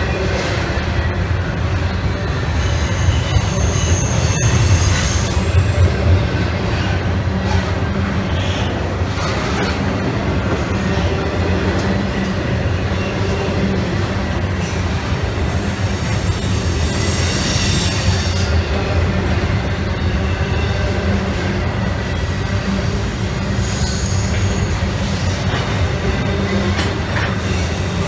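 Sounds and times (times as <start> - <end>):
railroad cars rumbling past: 0.0 - 28.0.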